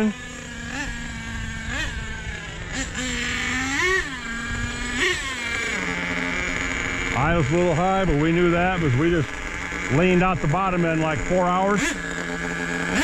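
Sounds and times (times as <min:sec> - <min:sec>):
rc truck engine idling with throttle blips: 0:00.0 - 0:13.0.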